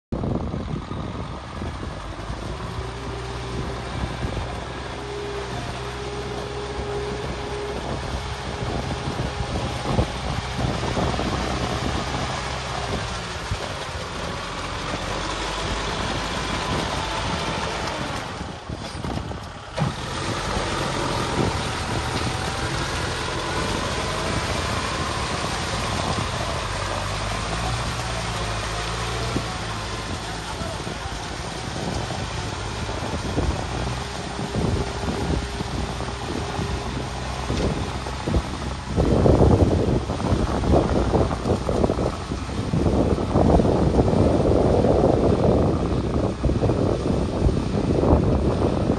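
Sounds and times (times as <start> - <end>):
diesel engine running: 0.1 - 48.9.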